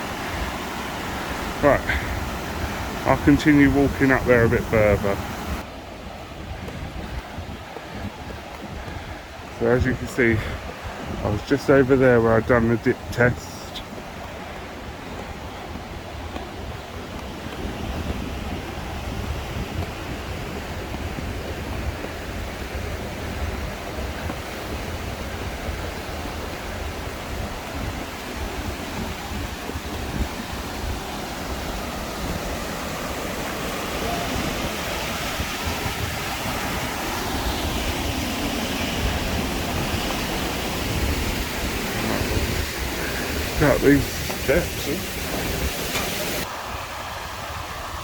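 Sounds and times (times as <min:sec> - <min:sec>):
rushing waterfall: 0:00.0 - 0:48.0
wind buffeting microphone: 0:00.0 - 0:48.0.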